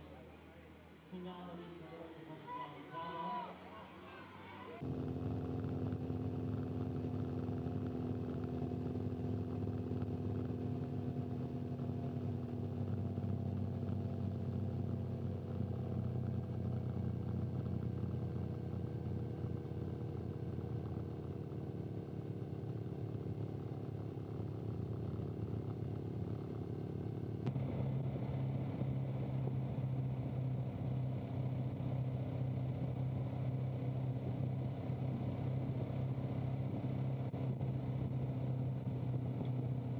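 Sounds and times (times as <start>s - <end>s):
motorcycle engine running: 4.8s - 39.9s.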